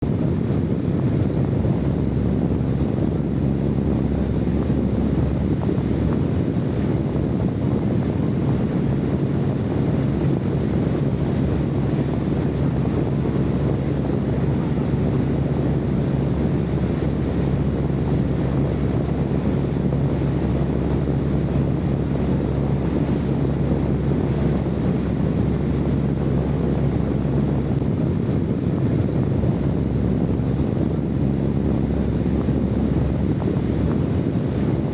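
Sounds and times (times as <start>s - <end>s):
steady low rushing noise: 0.0s - 34.9s.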